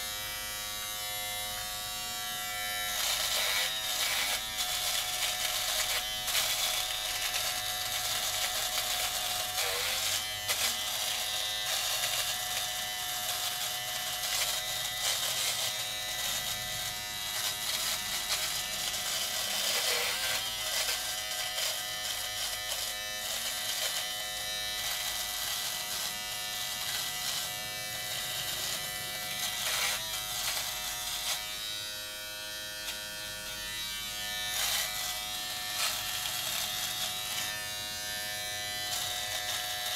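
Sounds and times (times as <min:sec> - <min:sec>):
electric trimmer buzzing: 0:00.0 - 0:39.9.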